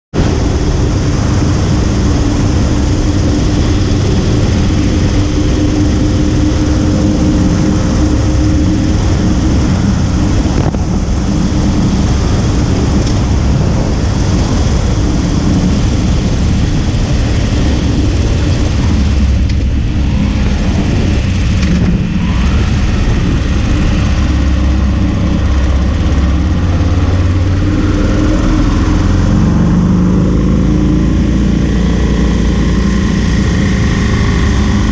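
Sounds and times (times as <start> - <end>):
motorcycle engine running: 0.1 - 34.9
wind rush: 0.1 - 34.9.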